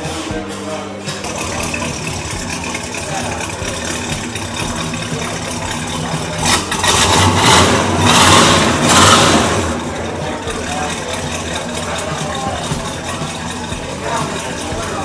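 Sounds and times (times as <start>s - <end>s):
car engine idling and revving: 1.1s - 15.0s.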